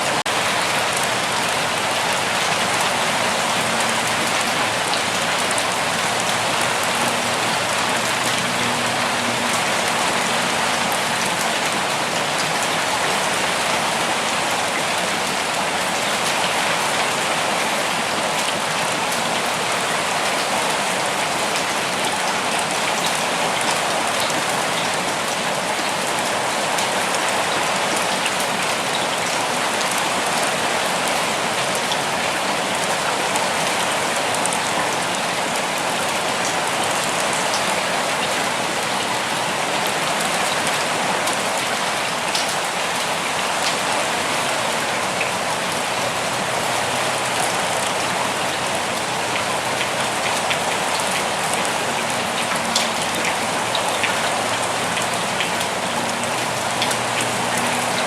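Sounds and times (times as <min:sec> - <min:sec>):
raindrops pattering on surfaces: 0:00.0 - 0:58.0
steady rain hiss: 0:00.0 - 0:58.0.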